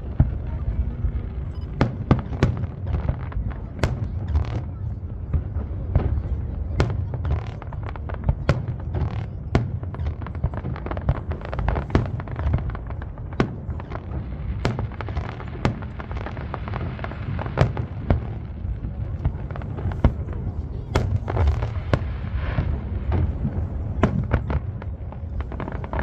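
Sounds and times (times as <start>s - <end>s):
echo off buildings: 0.0s - 26.0s.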